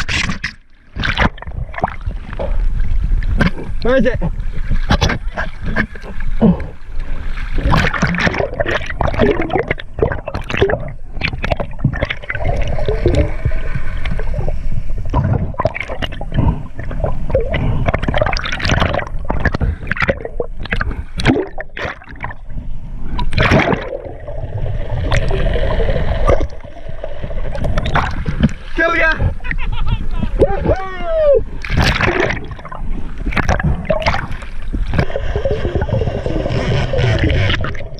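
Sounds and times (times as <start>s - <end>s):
sea water gurgling and sloshing: 0.0s - 37.9s.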